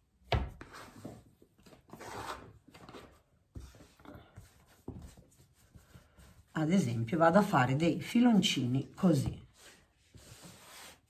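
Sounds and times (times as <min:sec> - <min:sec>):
dough scraping and rubbing: 0:00.6 - 0:07.5, 0:08.2 - 0:11.0.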